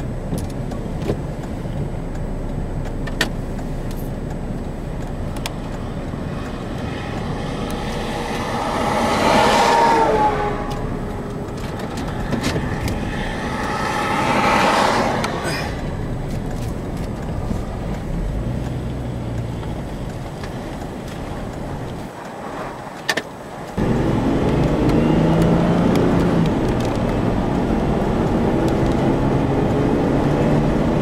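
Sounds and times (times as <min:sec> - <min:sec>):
cars passing: 0:00.0 - 0:31.0
low traffic rumble: 0:00.0 - 0:31.0.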